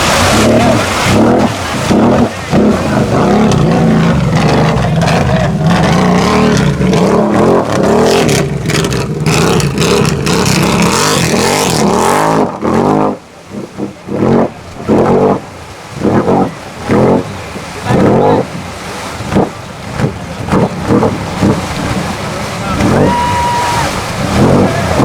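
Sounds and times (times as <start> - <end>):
atv engine revving hard: 0.0 - 22.2, 22.8 - 25.0.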